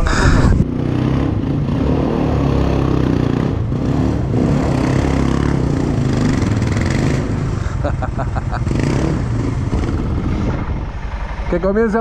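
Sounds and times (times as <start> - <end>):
quad engines running: 0.0 - 12.0.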